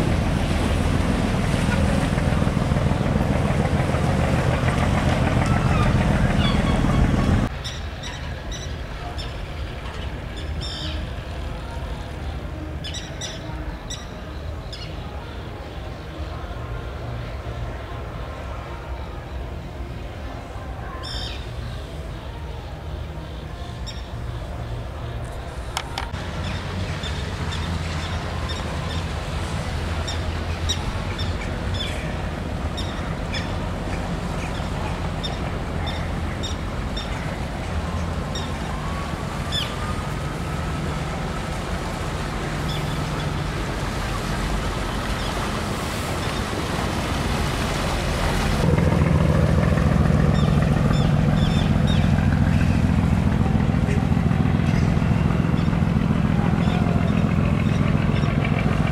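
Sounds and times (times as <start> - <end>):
boat engine humming: 0.0 - 58.9
water wash: 0.0 - 58.9.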